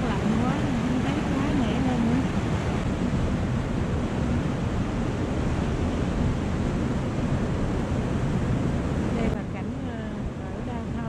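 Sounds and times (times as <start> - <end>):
whitewater rushing: 0.0 - 11.0.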